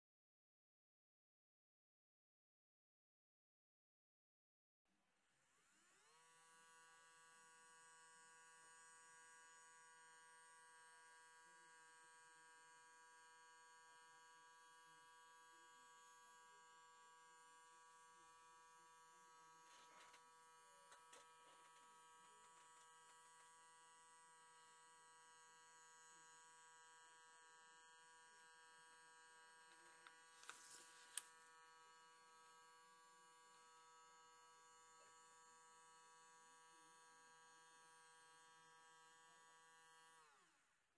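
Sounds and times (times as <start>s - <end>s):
small turntable motor whine: 5.2s - 40.6s.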